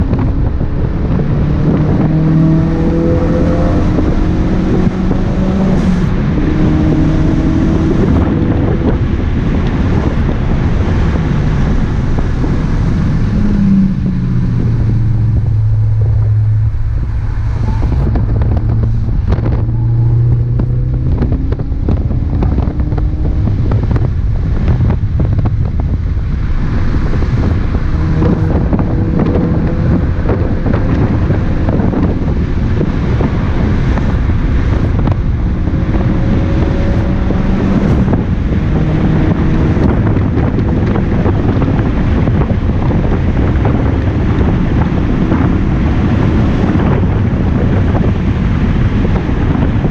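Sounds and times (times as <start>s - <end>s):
car engine driven hard: 0.0s - 49.9s
road and tyre noise: 0.0s - 49.9s.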